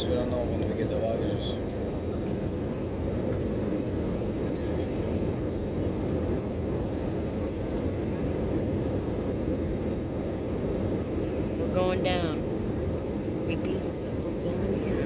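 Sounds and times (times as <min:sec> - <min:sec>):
jet engine and airflow in cabin: 0:00.0 - 0:15.0.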